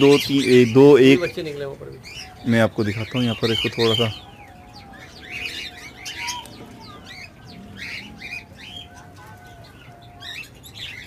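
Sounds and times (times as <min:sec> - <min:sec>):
birds chirping: 0:00.0 - 0:11.0
dove cooing: 0:00.0 - 0:11.0.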